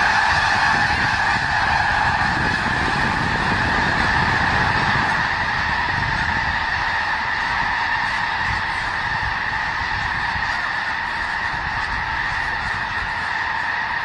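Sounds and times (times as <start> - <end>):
flock of geese honking: 0.0 - 14.0.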